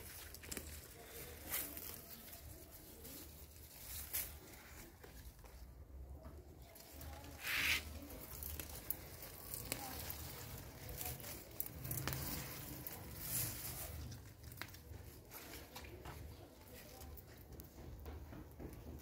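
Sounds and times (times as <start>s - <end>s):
plant leaves rustling: 0.0s - 17.3s.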